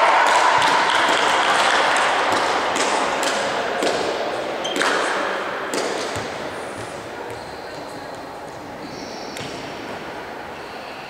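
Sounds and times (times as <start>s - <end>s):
echoing indoor hall noise: 0.0s - 11.0s.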